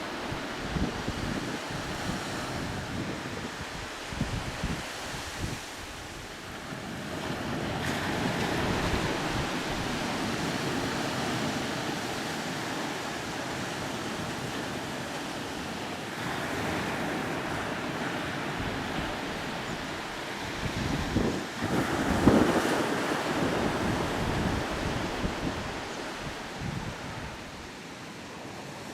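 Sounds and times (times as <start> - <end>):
wind buffeting microphone: 0.0 - 27.8
waves breaking on sand: 0.0 - 28.9.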